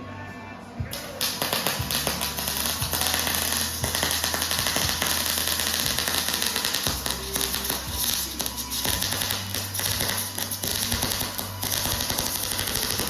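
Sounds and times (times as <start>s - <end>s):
welding arc crackling and hissing: 0.9s - 13.0s.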